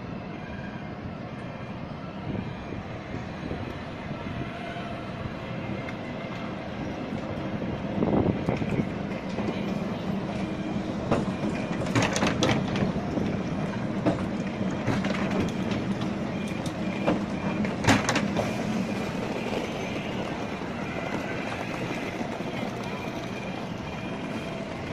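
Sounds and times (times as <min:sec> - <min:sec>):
tram passing with electric hum: 0:00.0 - 0:24.9.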